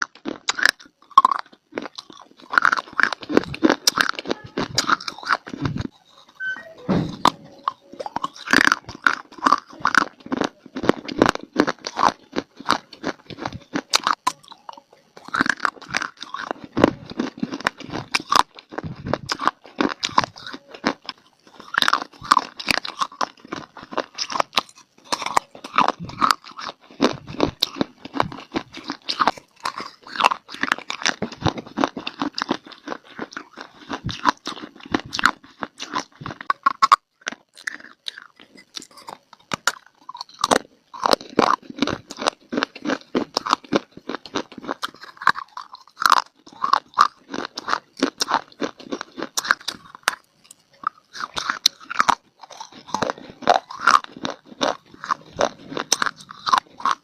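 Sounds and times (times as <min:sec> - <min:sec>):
person chewing crunchy clay: 0:00.0 - 0:57.0.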